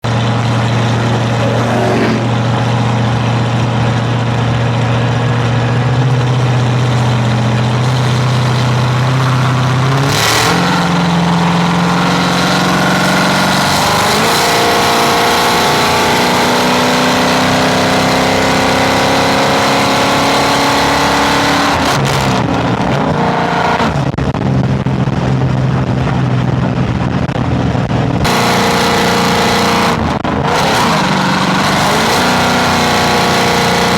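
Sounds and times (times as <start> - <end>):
vehicle engine running: 0.0 - 33.9.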